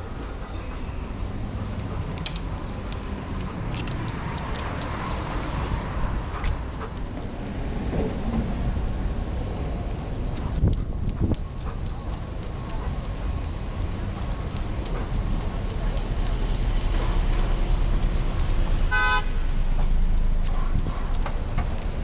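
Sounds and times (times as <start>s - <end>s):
traffic rumble: 0.0s - 22.0s
light clicks and ticks: 1.6s - 7.6s, 9.9s - 22.0s.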